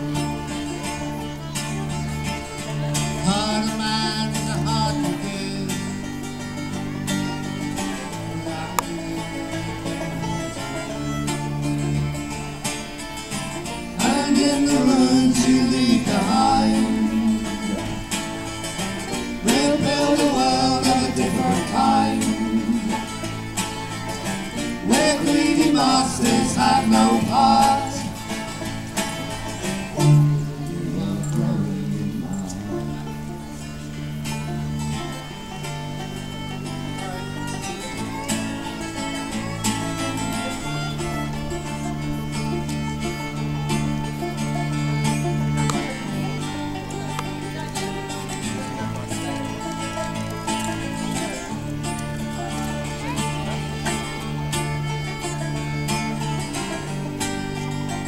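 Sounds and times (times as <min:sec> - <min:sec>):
bluegrass folk band playing: 0:00.0 - 0:58.0
electric guitar: 0:00.0 - 0:58.0
fiddle: 0:00.0 - 0:58.0
plucked banjo: 0:00.0 - 0:58.0
upright bass line: 0:00.0 - 0:58.0.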